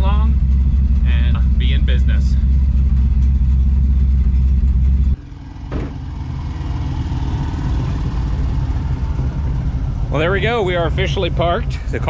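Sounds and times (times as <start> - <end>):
car engine rumbling and idling: 0.0 - 12.0.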